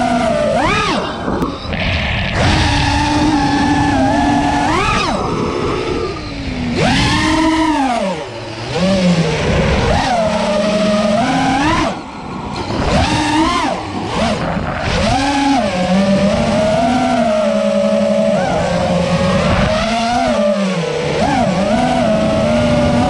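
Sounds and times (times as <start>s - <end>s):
drone motors and propellers whining: 0.0s - 23.0s.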